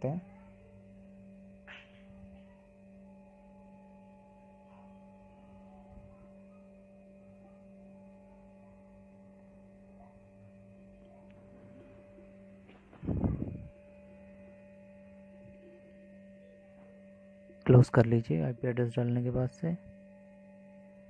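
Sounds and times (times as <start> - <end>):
faint higher tone: 0.0 - 21.0
steady electrical hum: 0.0 - 21.0.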